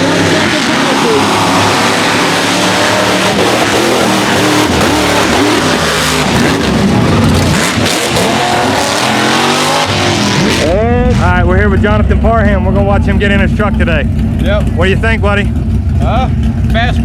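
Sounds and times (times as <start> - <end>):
truck engines racing: 0.0 - 17.0.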